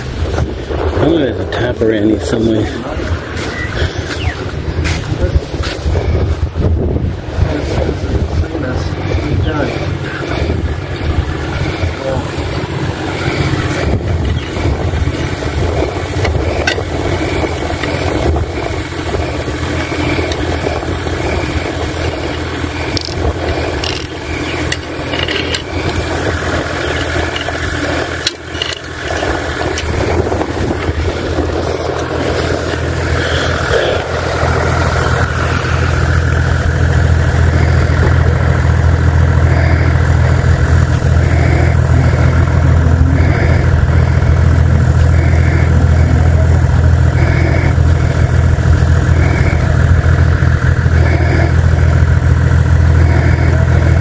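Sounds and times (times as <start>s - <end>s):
engine humming: 0.0s - 54.0s.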